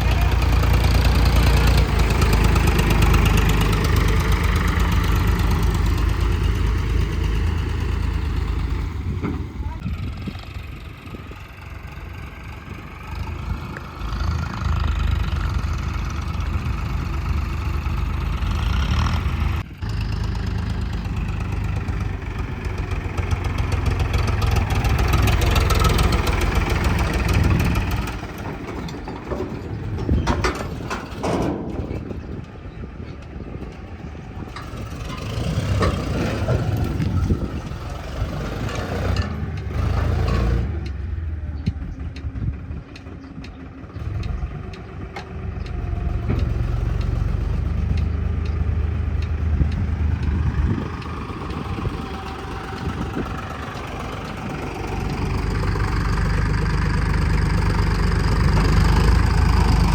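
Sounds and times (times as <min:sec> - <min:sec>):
diesel engine revving under load: 0:00.0 - 0:59.9.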